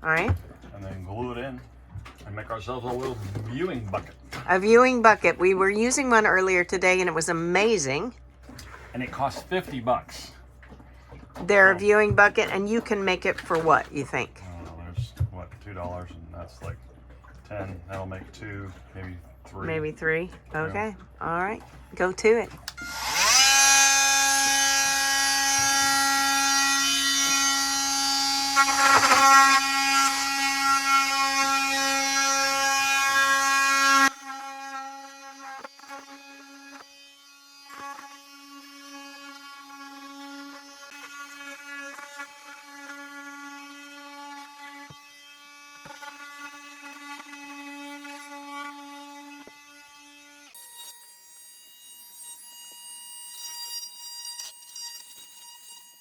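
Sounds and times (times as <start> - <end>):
power saw cutting plastic: 0.0 - 16.8, 17.6 - 56.0.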